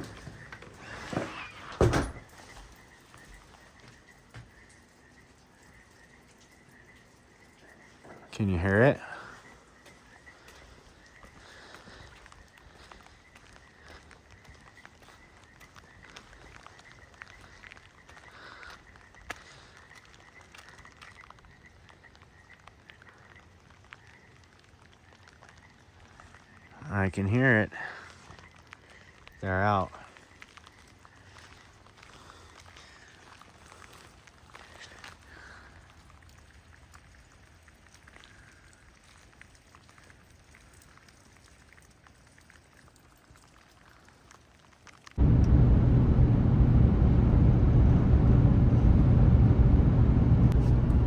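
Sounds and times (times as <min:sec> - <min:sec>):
light rain patter: 0:00.0 - 0:51.0
small drips ticking: 0:02.3 - 0:45.2.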